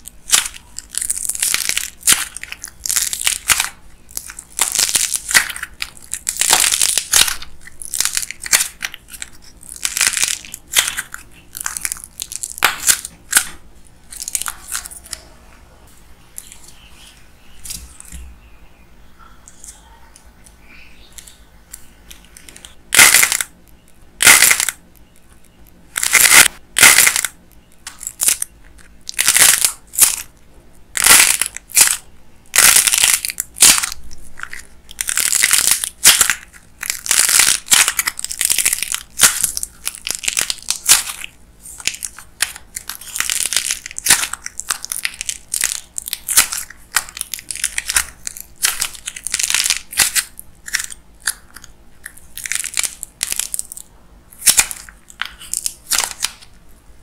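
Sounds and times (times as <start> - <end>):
clay coating crackling: 0.0 - 15.2, 21.1 - 56.5
soft clay tearing: 0.0 - 15.3, 24.2 - 56.5.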